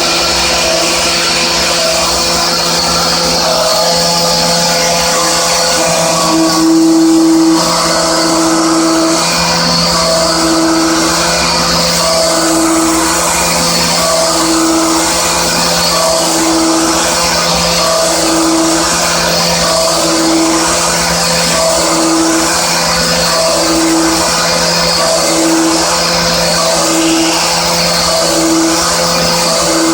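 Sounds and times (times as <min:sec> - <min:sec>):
pitched milling cutter tone: 0:00.0 - 0:29.9
machine hum: 0:05.0 - 0:29.9.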